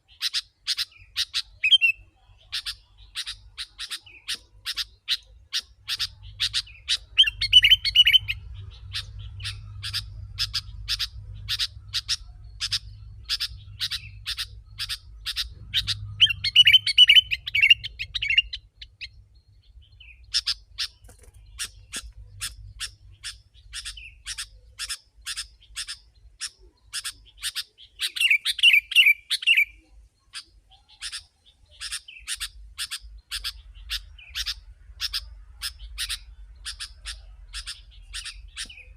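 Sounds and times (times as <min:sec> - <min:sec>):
bird sharp chirps: 0:00.0 - 0:38.9
bird warbled chattering phrases: 0:00.1 - 0:19.1, 0:20.3 - 0:29.7, 0:30.3 - 0:38.9.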